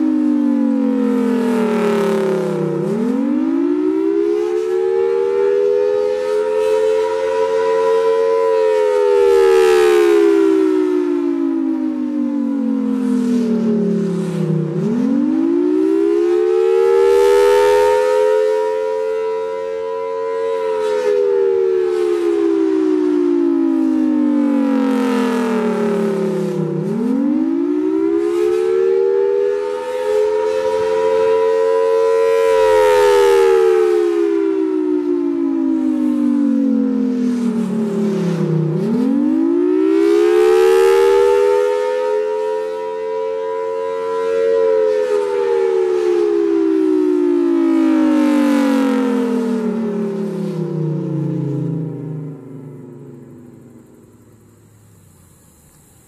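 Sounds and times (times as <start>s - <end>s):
tornado siren wailing: 0.0s - 55.5s.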